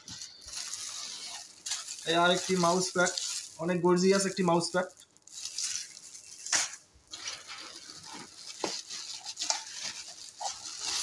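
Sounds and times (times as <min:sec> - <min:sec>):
plastic wrap crinkling: 0:00.0 - 0:11.0
sharp plastic crackle: 0:00.0 - 0:11.0.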